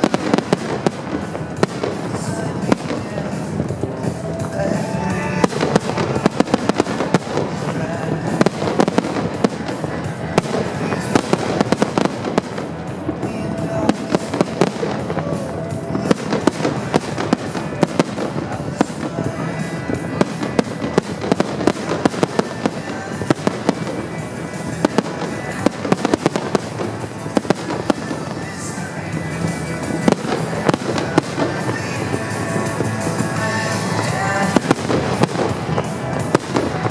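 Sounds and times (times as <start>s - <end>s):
fireworks bursts and crackling: 0.0s - 36.9s
music playing: 0.0s - 36.9s.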